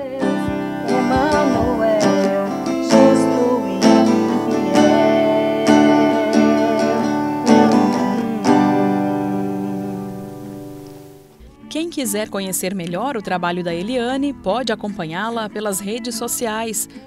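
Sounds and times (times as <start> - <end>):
woman singing gospel song: 0.0 - 10.4, 11.5 - 17.0
acoustic guitar strumming: 0.0 - 17.0.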